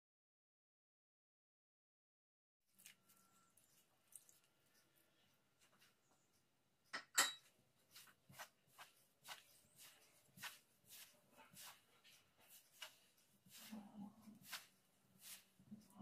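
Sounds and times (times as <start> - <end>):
hands kneading dough: 2.7 - 16.0.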